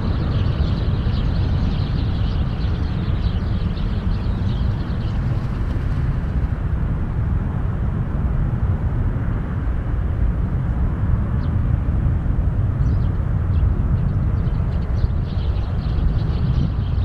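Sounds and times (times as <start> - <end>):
jet engines at take-off power: 0.0 - 17.0.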